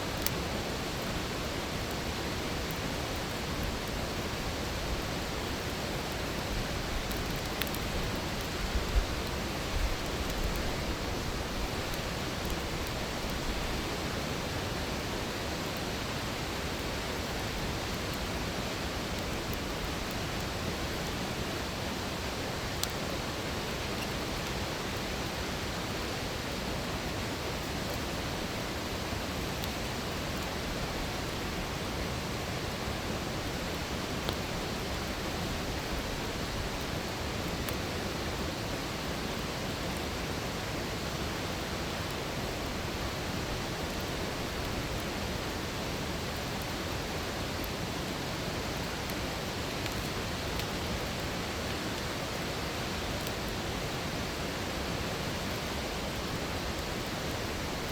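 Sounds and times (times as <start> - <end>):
campfire crackles: 0.0 - 57.9
campfire rushing hiss: 0.0 - 57.9.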